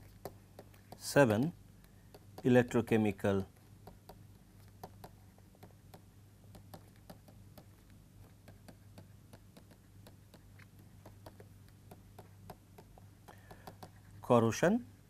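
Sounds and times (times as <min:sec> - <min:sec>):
stylus tapping on tablet screen: 0:00.0 - 0:14.1
low steady hum: 0:00.0 - 0:15.0.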